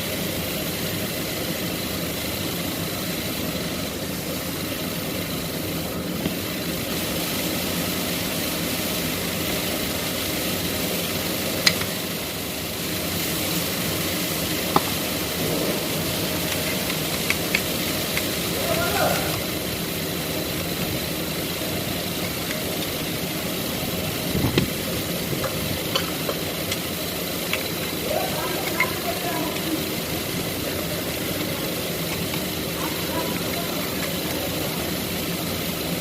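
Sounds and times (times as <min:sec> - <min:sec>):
machine running: 0:00.0 - 0:36.0.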